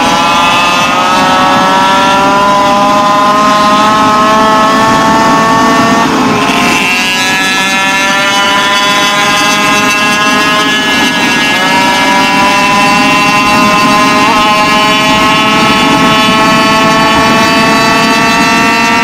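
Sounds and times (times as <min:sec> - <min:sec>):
two-stroke engine revving: 0:00.0 - 0:19.0
wind on microphone: 0:00.0 - 0:19.0.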